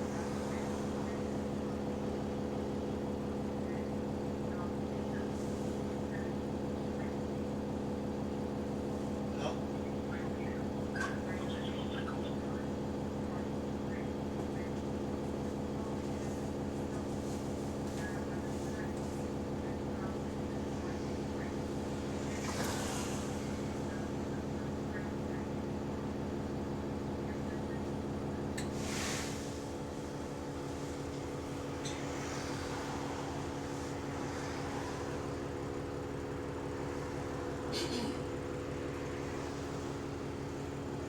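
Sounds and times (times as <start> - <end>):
bus diesel engine drone: 0.0 - 41.0.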